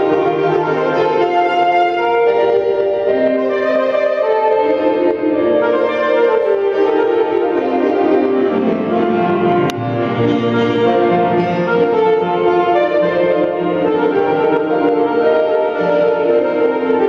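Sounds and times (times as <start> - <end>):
organ chords: 0.0 - 17.0
saxophone melody: 0.0 - 17.0.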